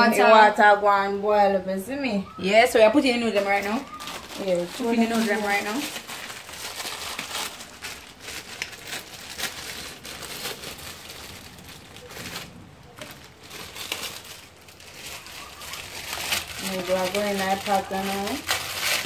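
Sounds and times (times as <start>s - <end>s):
plastic packet crinkling: 2.8s - 19.0s.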